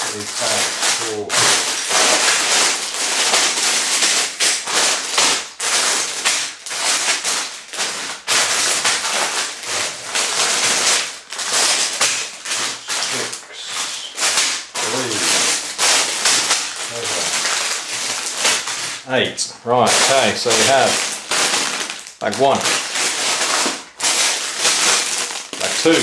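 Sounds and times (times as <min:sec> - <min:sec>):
plastic bags crinkling: 0:00.0 - 0:26.0.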